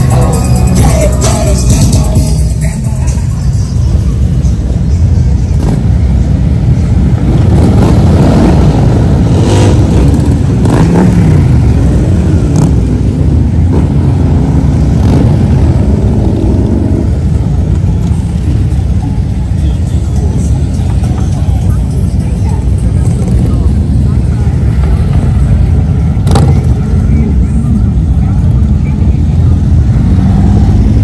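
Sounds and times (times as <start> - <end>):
motorcycles passing: 0.0 - 31.0.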